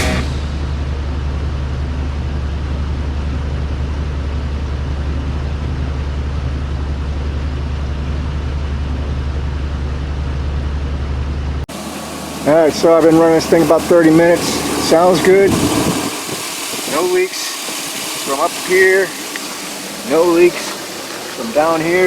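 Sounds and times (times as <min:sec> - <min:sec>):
pickup engine idling: 0:00.0 - 0:22.0.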